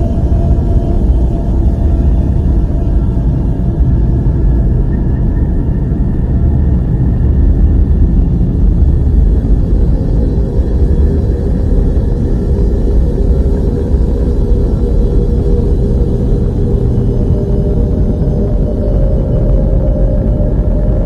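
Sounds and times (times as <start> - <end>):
faint steady tones: 0.0 - 21.0
loud low rumble: 0.0 - 21.0.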